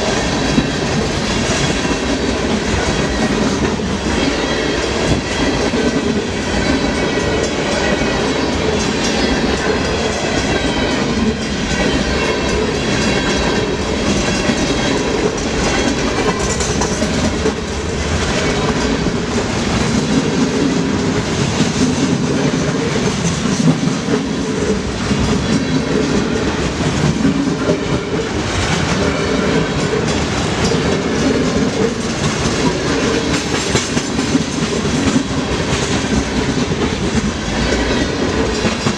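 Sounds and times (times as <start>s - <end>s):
train wheels clacking: 0.0s - 38.9s.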